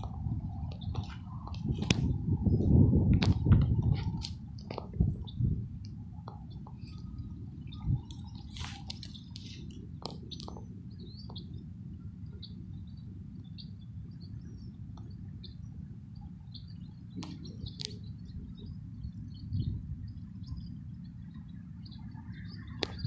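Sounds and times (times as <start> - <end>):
small birds chirping: 0.0 - 2.7, 3.4 - 23.0
steady low rumble: 0.0 - 23.0.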